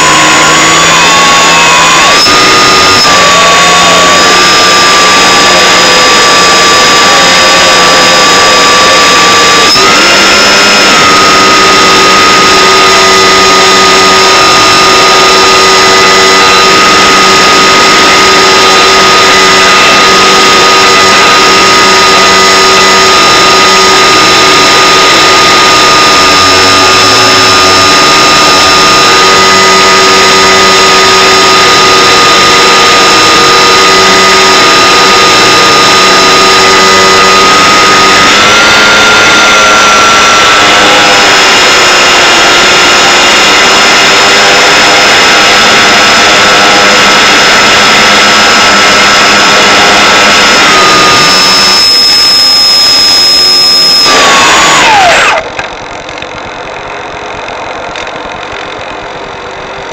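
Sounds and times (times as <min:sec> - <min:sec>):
loud hiss-like noise: 0:00.0 - 0:55.5
steady whining tones: 0:00.0 - 0:59.9.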